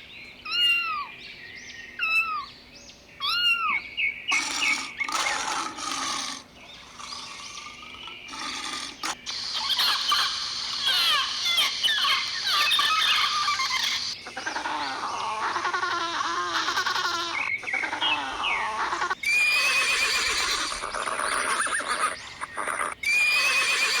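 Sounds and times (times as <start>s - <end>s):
lower pitched animal calls: 0.5s - 1.1s, 3.2s - 24.0s
quick high animal chirps: 3.2s - 24.0s.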